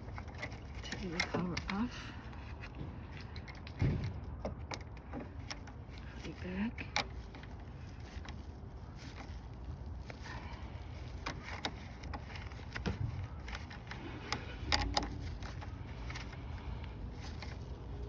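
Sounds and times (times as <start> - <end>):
sharp clicks and knocks: 0.0 - 8.4, 11.1 - 17.6
low steady rumble: 0.0 - 18.0.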